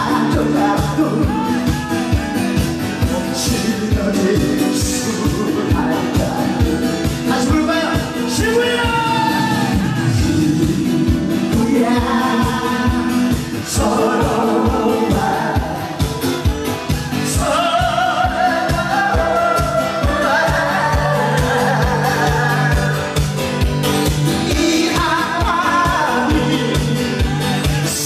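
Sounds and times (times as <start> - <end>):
amplified music with singing: 0.0 - 28.0.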